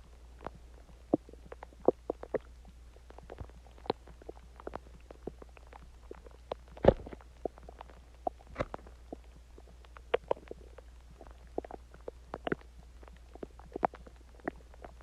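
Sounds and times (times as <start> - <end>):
stomach gurgling: 0.0 - 15.0.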